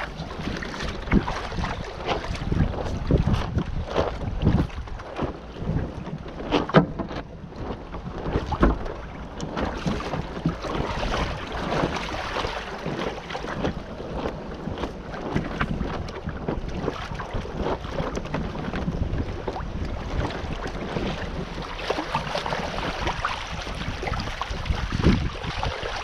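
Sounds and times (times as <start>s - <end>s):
knocks and splashes: 0.0s - 26.0s
water lapping against hull: 0.0s - 26.0s
wind on microphone: 0.0s - 26.0s.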